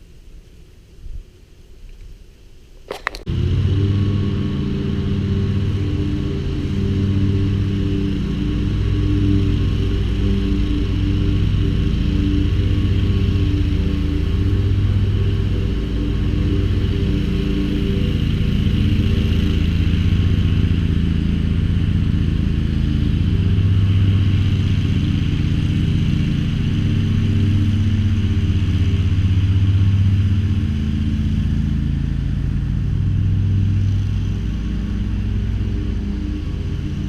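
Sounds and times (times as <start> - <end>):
mower engine running: 2.9 - 37.0.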